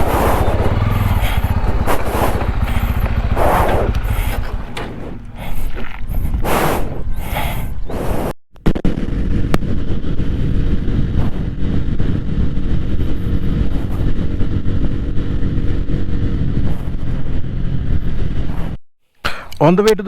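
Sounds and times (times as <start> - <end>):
motorcycle engine running: 0.0 - 7.9, 9.1 - 18.7.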